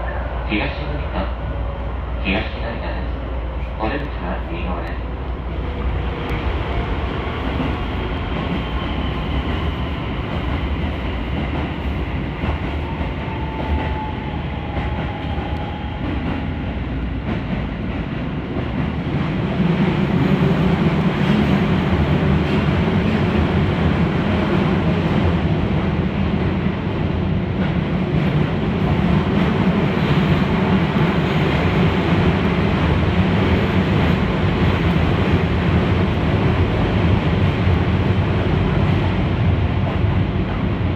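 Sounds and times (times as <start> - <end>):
electric train rolling on track: 0.0 - 40.9.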